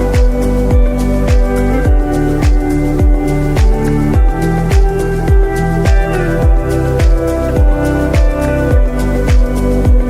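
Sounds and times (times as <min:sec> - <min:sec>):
bass line: 0:00.0 - 0:10.0
electronic music: 0:00.0 - 0:10.0
sustained synth tones: 0:00.0 - 0:10.0
kick drum beating: 0:00.2 - 0:10.0.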